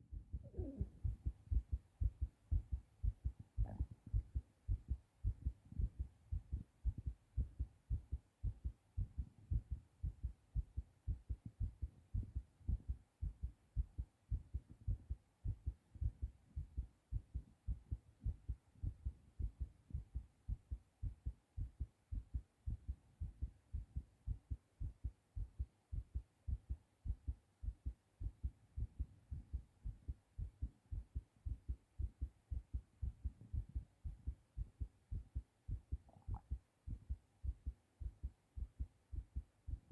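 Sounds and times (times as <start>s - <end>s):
fast thumping heartbeat: 0.0s - 39.9s.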